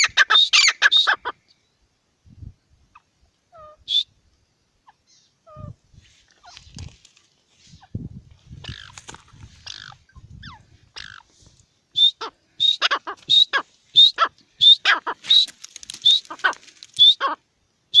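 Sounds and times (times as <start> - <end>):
partridge calling: 0.0 - 1.7, 2.9 - 4.2, 4.8 - 6.7, 7.7 - 18.0.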